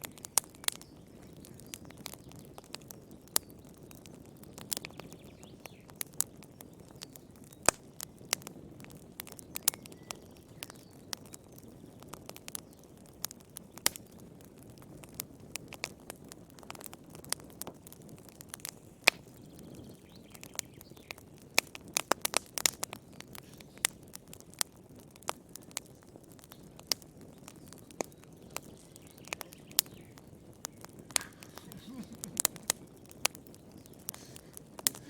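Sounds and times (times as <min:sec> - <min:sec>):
low rush of flames: 0:00.0 - 0:35.0
wood fire crackling: 0:00.0 - 0:35.0.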